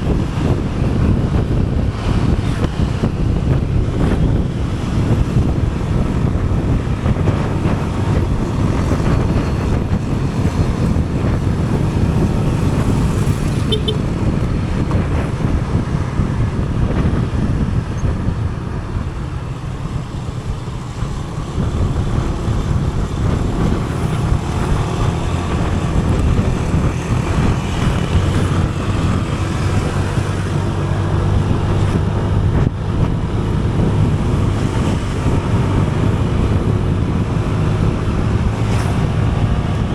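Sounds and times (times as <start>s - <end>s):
vehicle engine low hum: 0.0s - 39.9s
wind buffeting microphone: 0.0s - 39.9s.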